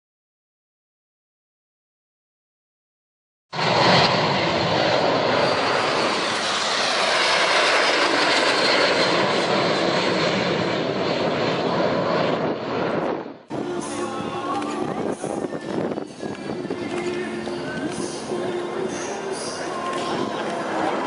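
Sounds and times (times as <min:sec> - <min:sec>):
jet aircraft flying by: 0:03.6 - 0:21.0.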